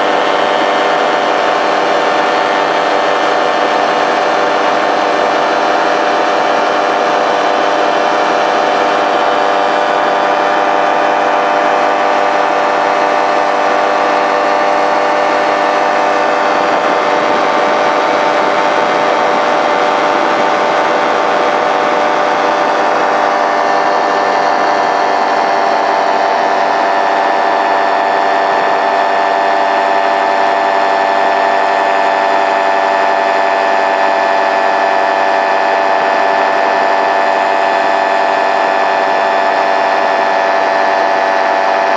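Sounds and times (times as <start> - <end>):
paraglider engine and propeller drone: 0.0 - 41.9.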